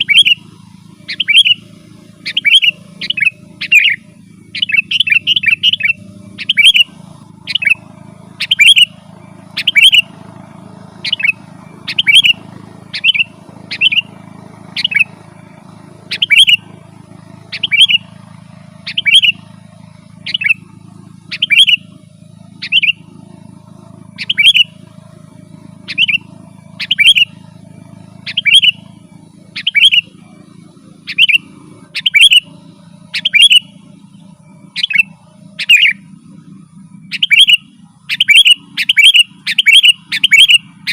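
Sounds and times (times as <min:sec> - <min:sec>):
bird calling sharp notes: 0:00.0 - 0:40.9.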